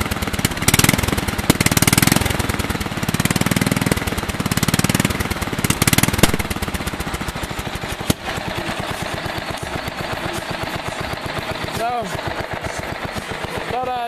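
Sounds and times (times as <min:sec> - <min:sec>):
lawn mower engine revving: 0:00.0 - 0:14.0.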